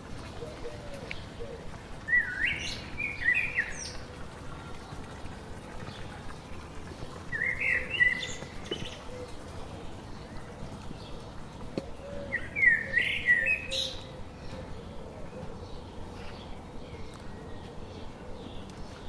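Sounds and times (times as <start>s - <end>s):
forest bird singing: 0.0s - 19.0s
steady forest ambience hiss: 0.0s - 19.0s.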